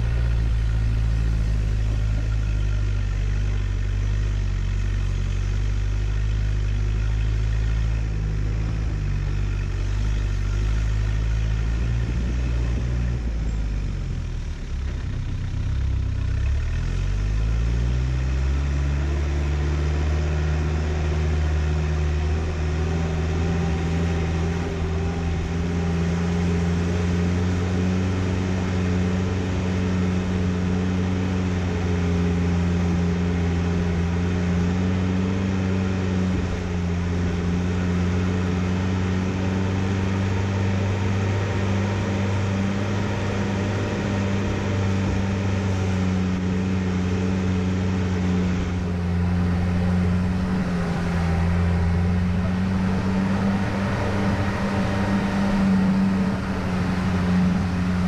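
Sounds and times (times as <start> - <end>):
vehicle engine running under load: 0.0 - 58.0.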